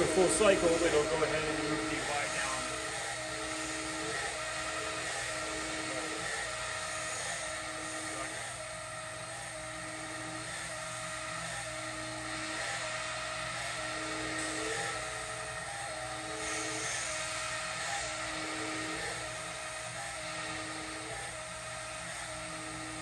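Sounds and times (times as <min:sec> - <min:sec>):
grinder hiss and hum: 0:00.0 - 0:23.0
motor tone starting and stopping: 0:00.0 - 0:23.0.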